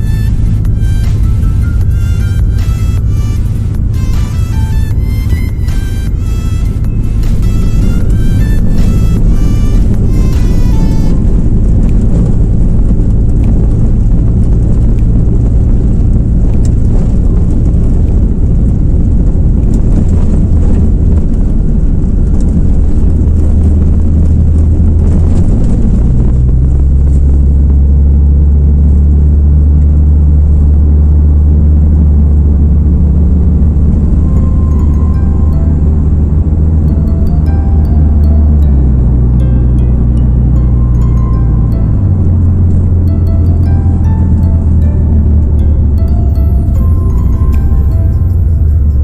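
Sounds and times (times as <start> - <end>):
car engine and road rumble: 0.0 - 49.0.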